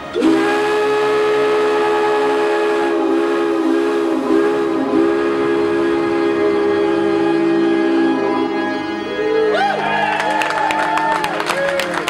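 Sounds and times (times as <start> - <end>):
steam whistle blowing a chord: 0.0 - 12.0.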